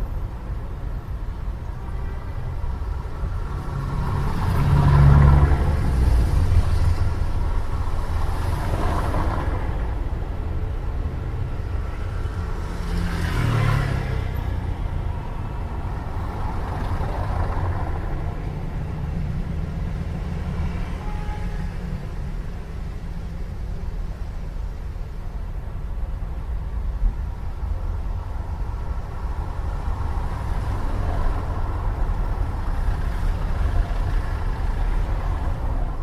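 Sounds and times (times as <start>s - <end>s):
traffic rumble: 0.0s - 36.0s
vehicles passing: 0.0s - 36.0s.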